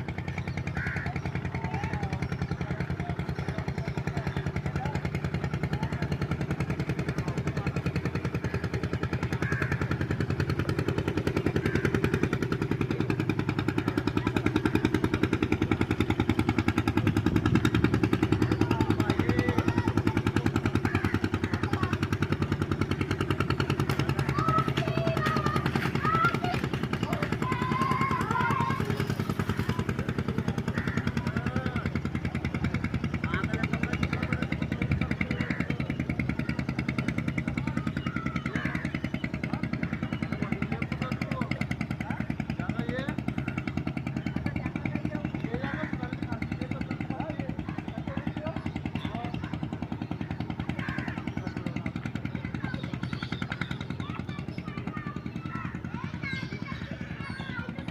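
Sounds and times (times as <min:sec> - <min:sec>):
boat engine running: 0:00.0 - 0:57.9.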